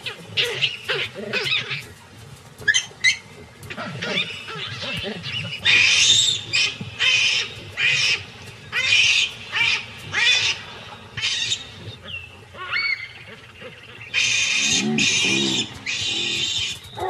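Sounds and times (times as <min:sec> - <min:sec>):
baboons screaming: 0:02.7 - 0:17.0.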